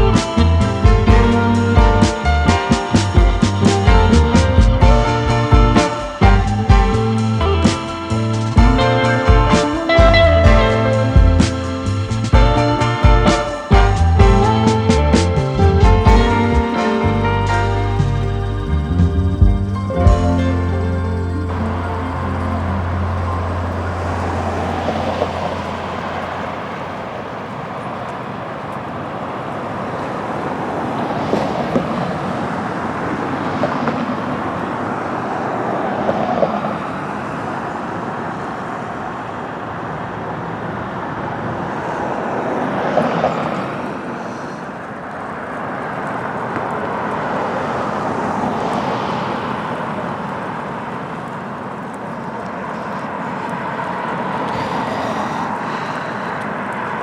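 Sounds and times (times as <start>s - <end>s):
cars passing: 0.0s - 57.0s
road hum: 0.0s - 57.0s.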